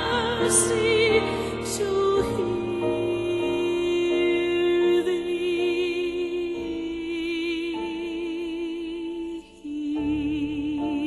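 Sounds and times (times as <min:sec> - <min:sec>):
woman singing hymn with vibrato: 0:00.0 - 0:11.0.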